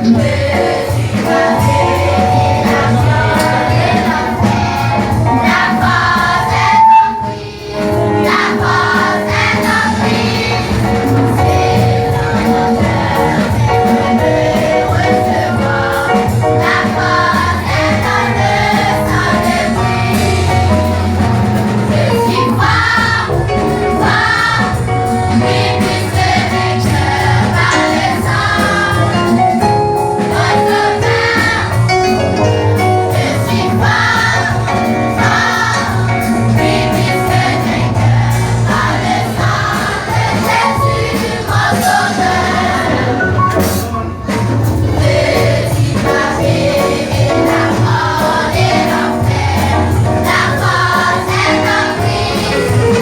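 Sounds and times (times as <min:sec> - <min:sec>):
church choir singing a hymn: 0:00.0 - 0:53.0
instrumental accompaniment with bass: 0:00.0 - 0:53.0.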